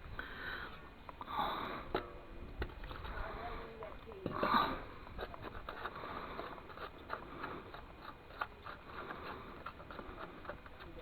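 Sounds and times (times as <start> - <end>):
small irregular clicks: 0.0 - 11.0.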